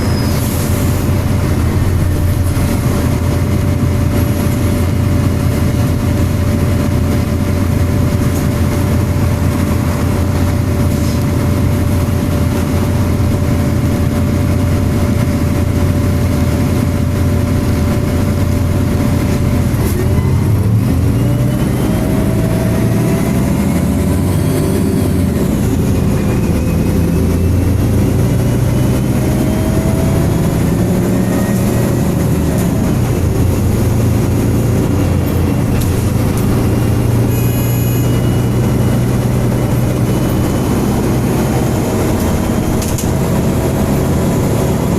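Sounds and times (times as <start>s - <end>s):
bus diesel engine: 0.0s - 44.9s.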